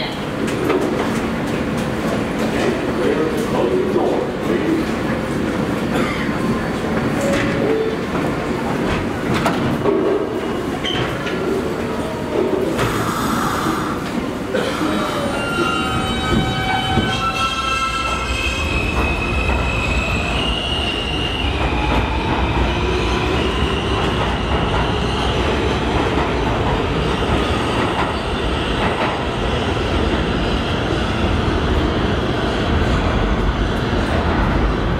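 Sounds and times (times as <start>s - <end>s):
subway train motors whining: 0.0s - 34.9s.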